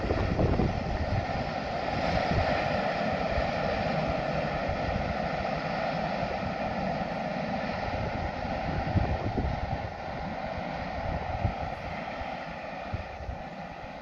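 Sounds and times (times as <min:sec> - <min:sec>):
distant freight train rumble: 0:00.0 - 0:14.0
wind buffeting microphone: 0:00.0 - 0:14.0.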